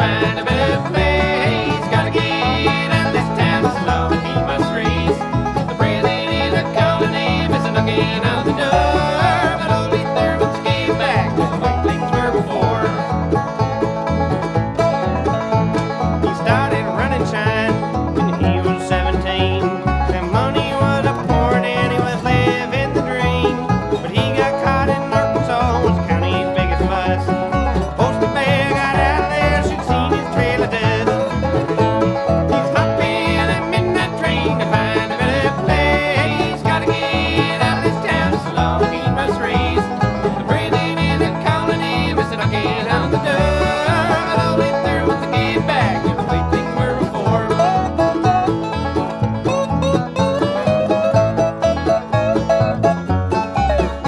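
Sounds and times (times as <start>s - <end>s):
banjo picking: 0.0s - 54.0s
guitar: 0.0s - 54.0s
sliding lead instrument: 0.0s - 54.0s
upright bass line: 0.0s - 54.0s.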